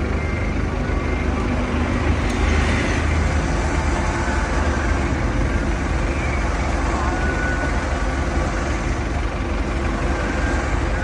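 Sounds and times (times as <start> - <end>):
forklift engine idling: 0.0 - 11.0.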